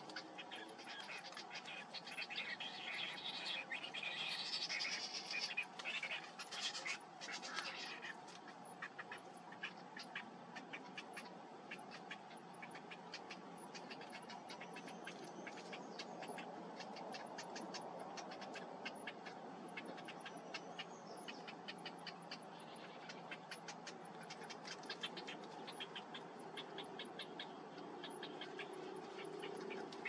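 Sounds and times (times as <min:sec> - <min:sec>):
chicks ticking begging calls: 0:00.0 - 0:30.0
steady background noise: 0:00.0 - 0:30.0.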